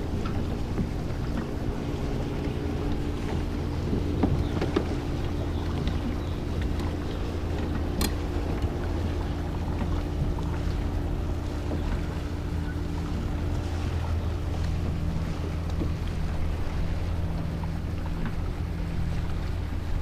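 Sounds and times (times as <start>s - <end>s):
low motor hum: 0.0s - 20.0s
wind on microphone: 0.0s - 20.0s.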